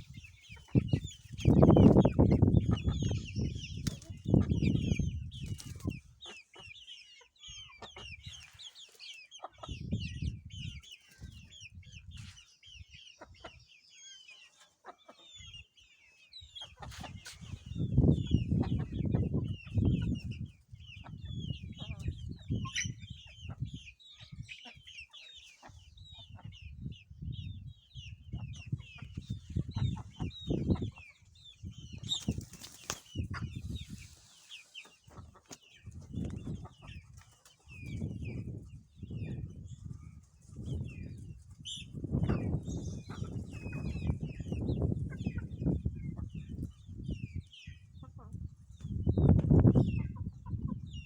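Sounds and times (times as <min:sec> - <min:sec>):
poultry peeping and chirping: 0:00.0 - 0:51.0.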